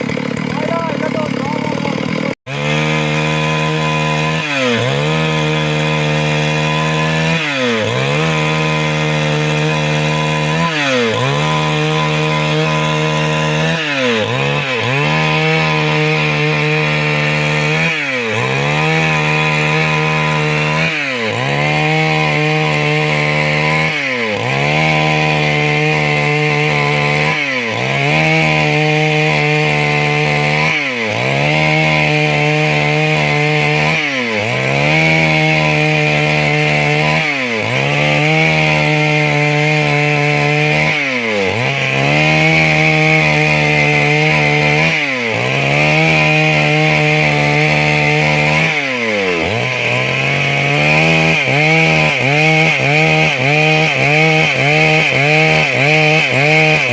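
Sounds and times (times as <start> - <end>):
chainsaw sawing wood: 0.0 - 56.9.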